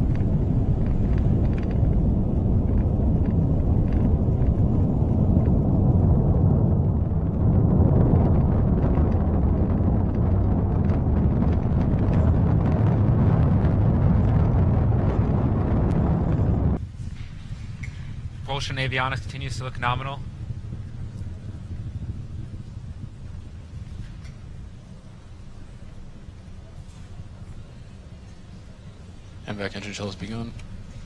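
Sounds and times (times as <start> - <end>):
rocket engines low rumble: 0.0 - 31.0.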